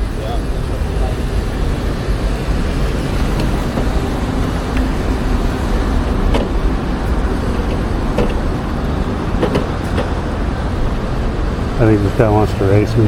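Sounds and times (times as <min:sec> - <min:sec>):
passing cars rumble: 0:00.0 - 0:13.0.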